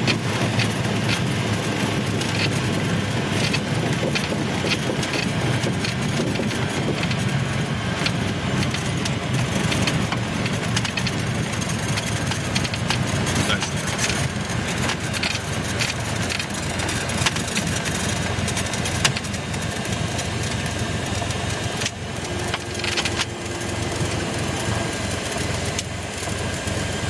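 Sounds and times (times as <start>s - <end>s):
light aircraft engine and propeller: 0.0s - 27.0s.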